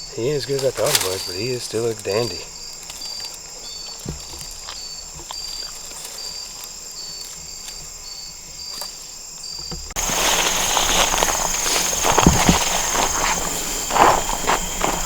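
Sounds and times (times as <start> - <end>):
high insect drone: 0.0 - 15.0
insects trilling and chirping: 0.0 - 15.0
rustling: 0.0 - 15.0.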